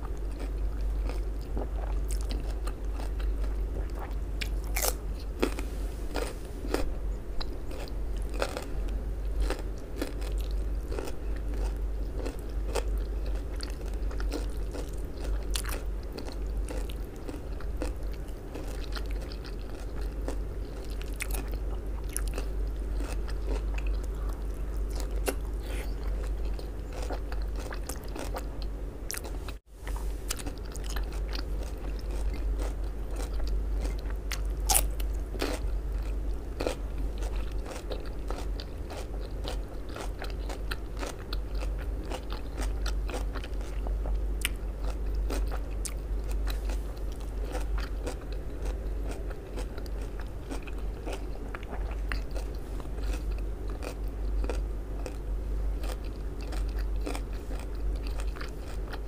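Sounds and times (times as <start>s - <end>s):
chewing crunchy cabbage: 0.0s - 59.0s
steady low hum: 0.0s - 59.0s.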